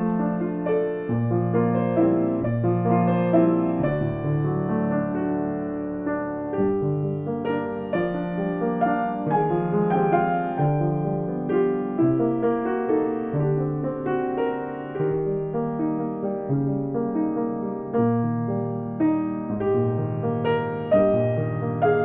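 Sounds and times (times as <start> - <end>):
solo piano piece: 0.0 - 22.0.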